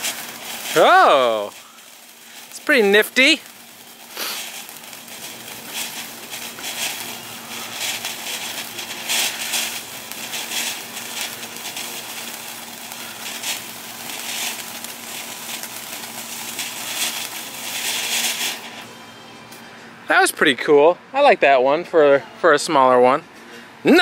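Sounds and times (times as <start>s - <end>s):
firework fountain crackling hiss: 0.0s - 21.3s.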